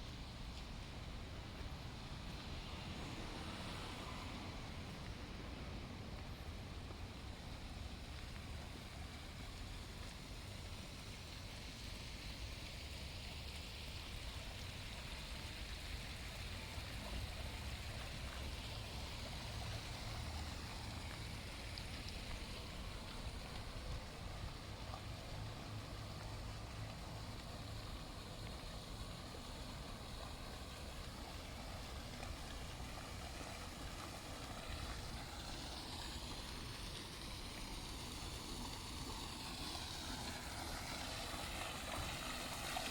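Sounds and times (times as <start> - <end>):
traffic on wet roads: 0.0 - 42.9.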